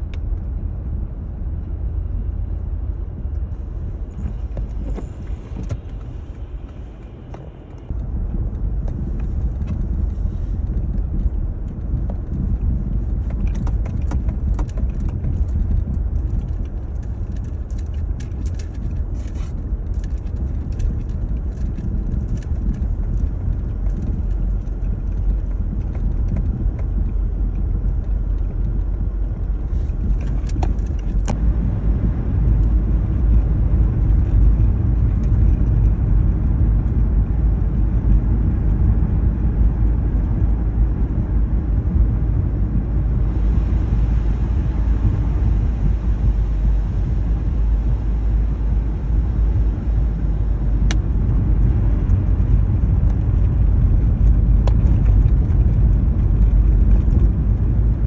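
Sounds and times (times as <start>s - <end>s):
tyres and engine rumble: 0.0s - 58.0s.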